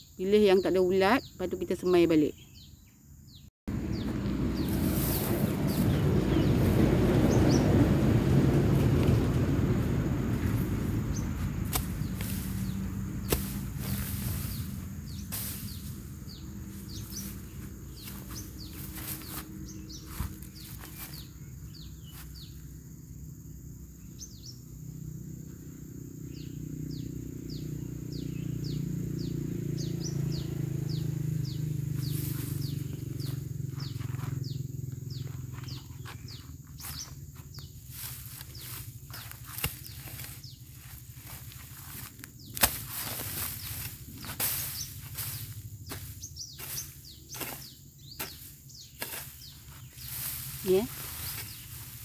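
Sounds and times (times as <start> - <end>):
bird chirping: 0.0 - 7.8, 10.2 - 22.7, 24.0 - 25.0, 26.2 - 52.0.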